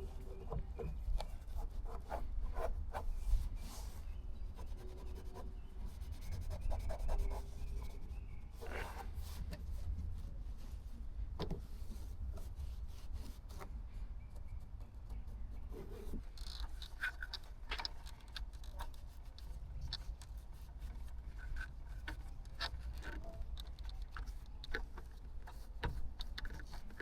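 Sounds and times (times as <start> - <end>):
hands rubbing and scraping car parts: 0.0 - 27.0.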